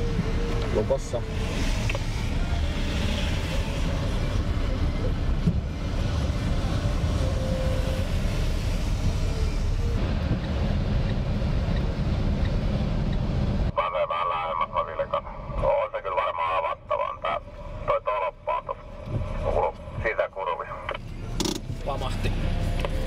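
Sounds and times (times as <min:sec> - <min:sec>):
car cabin road noise: 0:00.0 - 0:23.0.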